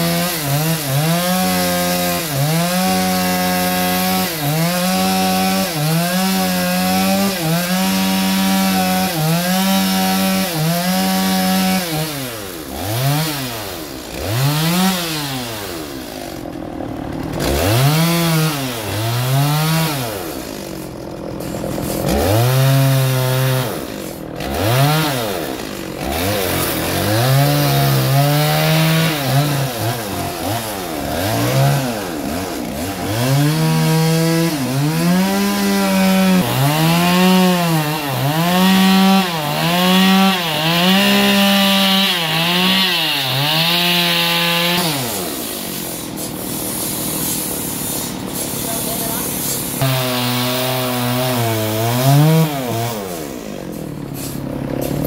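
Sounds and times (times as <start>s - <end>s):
chainsaw cutting wood: 0.0s - 55.0s
chainsaw revving: 0.0s - 55.0s.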